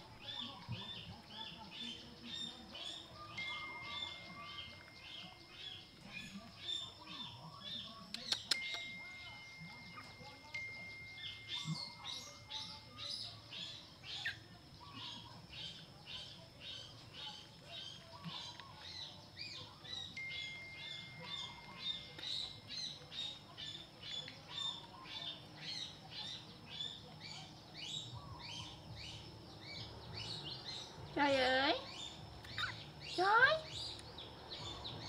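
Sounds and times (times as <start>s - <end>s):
small bird chirping: 0.0s - 35.0s.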